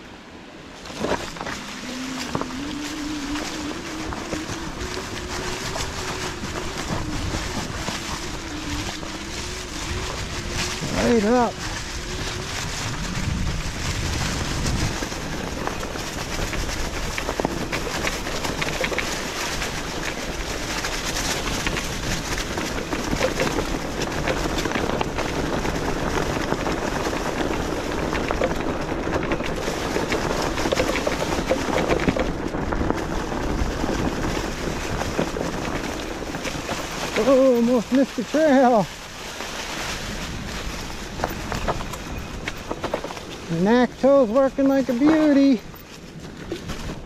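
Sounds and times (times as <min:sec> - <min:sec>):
tires rolling over dry leaves: 0:00.0 - 0:47.0.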